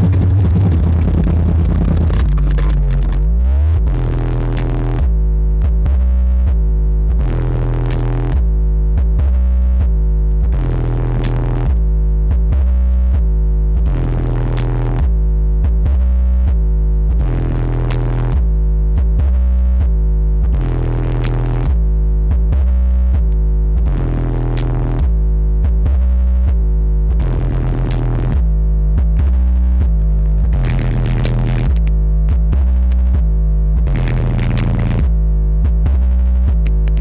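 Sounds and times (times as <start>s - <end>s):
loud electronic dance music: 0.0s - 37.0s.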